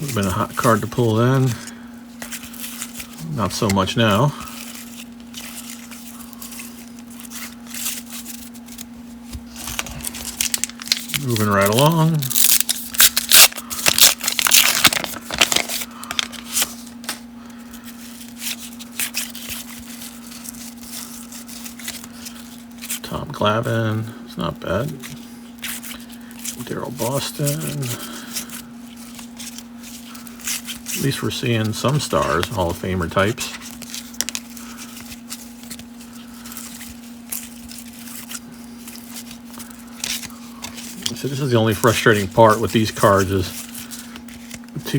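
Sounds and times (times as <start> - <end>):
cards rustling and clicking: 0.0 - 23.2, 24.7 - 44.9
steady low hum: 0.0 - 44.9.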